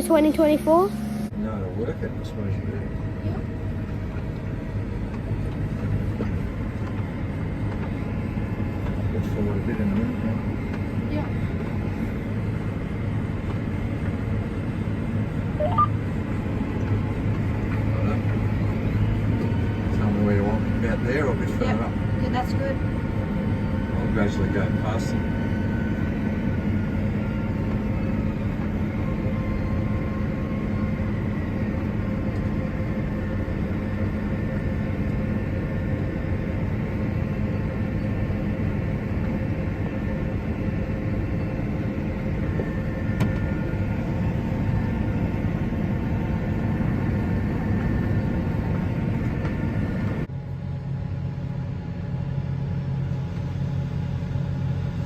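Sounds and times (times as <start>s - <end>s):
diesel harvest machinery drone: 0.0s - 55.0s
faint machine whine: 0.0s - 55.0s.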